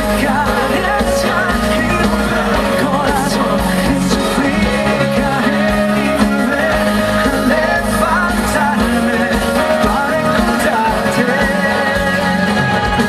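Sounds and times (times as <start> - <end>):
band playing rock song: 0.0 - 13.0.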